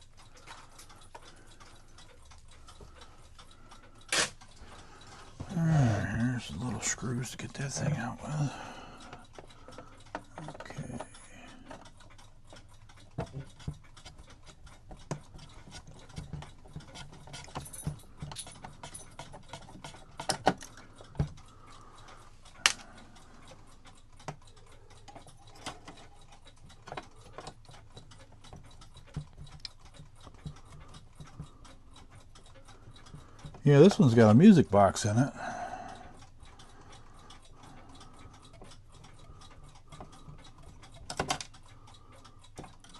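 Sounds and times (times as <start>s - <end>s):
clock ticking: 0.0s - 42.9s.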